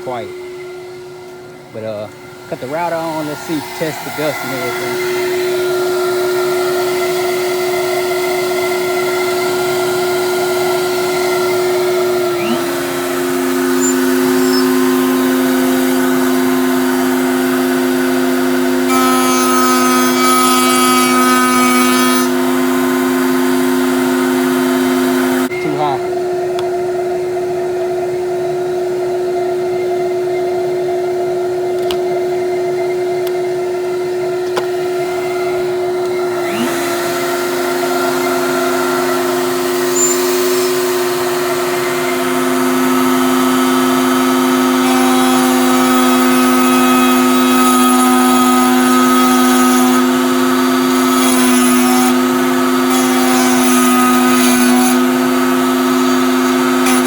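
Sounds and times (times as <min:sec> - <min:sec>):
shop vac running: 0:00.0 - 0:57.0
router motor hum: 0:02.1 - 0:25.5, 0:31.7 - 0:57.0.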